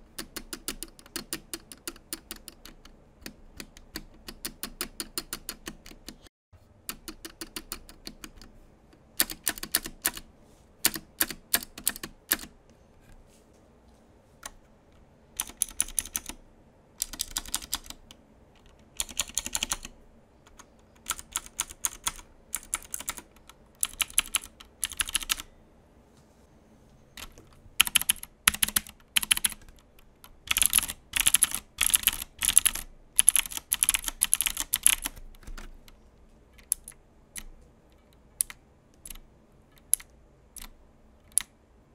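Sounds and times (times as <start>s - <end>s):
mechanical keyboard typing: 0.0s - 12.6s, 15.4s - 16.4s, 17.0s - 25.5s, 27.2s - 36.0s, 36.6s - 39.2s, 39.8s - 41.5s.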